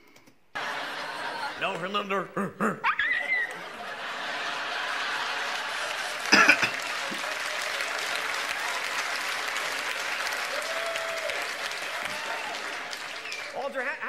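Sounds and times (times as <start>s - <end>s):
audience applauding: 0.6s - 2.0s, 3.0s - 14.0s.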